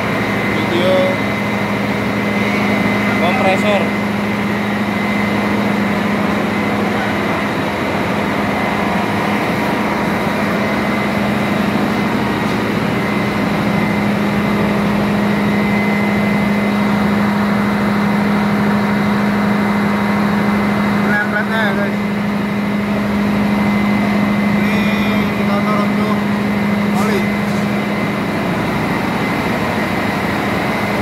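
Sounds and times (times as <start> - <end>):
engine room machinery humming: 0.0 - 31.0.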